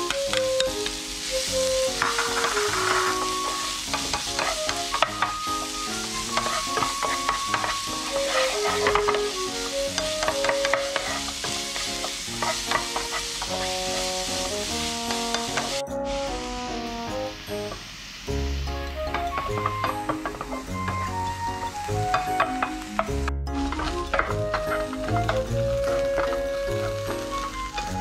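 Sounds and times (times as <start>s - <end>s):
spatula scraping and tapping pan: 0.0s - 1.0s, 1.7s - 15.8s, 19.1s - 21.3s, 22.0s - 27.9s
onion sizzling in oil: 0.0s - 28.0s
simple background melody: 0.0s - 28.0s.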